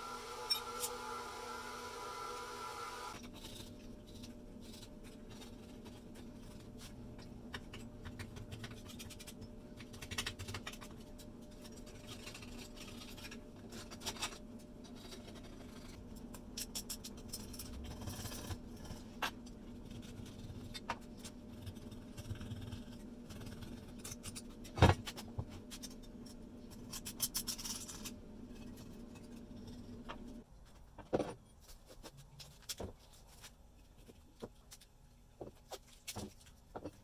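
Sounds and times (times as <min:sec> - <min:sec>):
steady low hum: 0:00.0 - 0:31.7.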